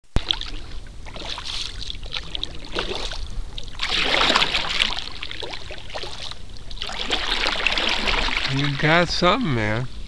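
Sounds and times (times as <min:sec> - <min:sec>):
paddle drips and splashes: 0:00.1 - 0:09.4
paddle stroke swishing: 0:00.2 - 0:09.0.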